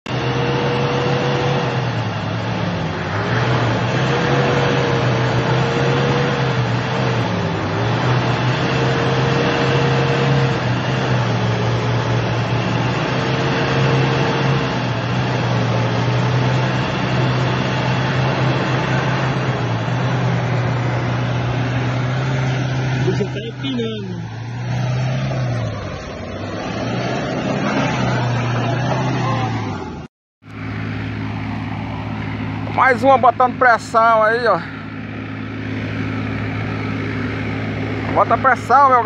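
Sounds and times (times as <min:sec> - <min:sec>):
pickup engine revving: 0:00.1 - 0:39.0.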